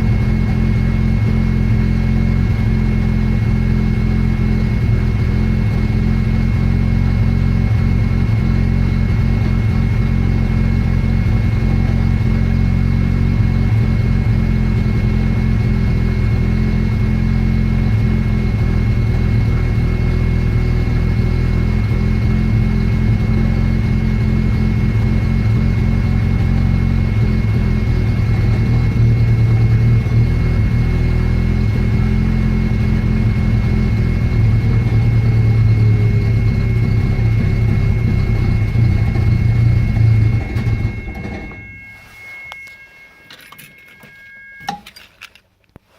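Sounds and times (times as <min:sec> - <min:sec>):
rotary car engine running: 0:00.0 - 0:42.6.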